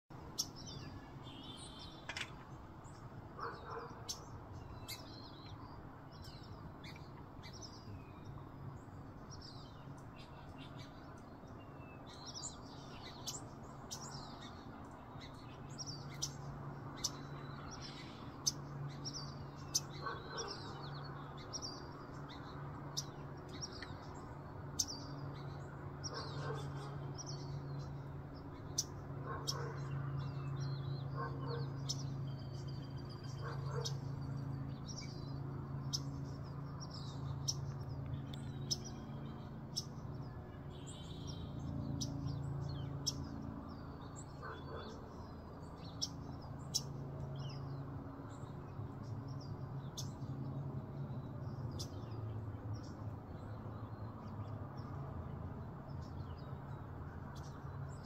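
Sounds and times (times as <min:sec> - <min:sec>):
small birds chirping: 0:00.1 - 0:58.0.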